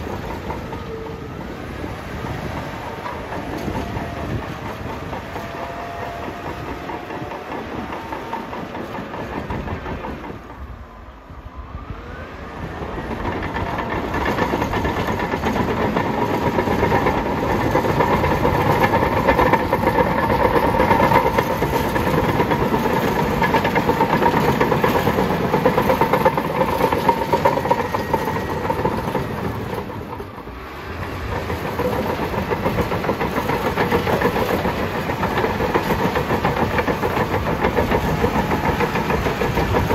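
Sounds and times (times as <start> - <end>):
bulldozer diesel engine running: 0.0 - 39.9
steel tracks rattling: 0.0 - 39.9.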